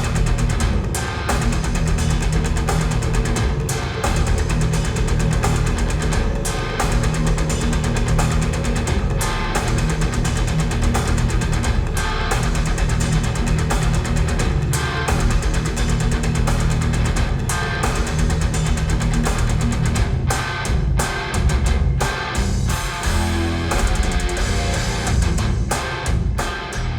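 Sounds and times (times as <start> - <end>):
rock music over loudspeakers: 0.0 - 26.9.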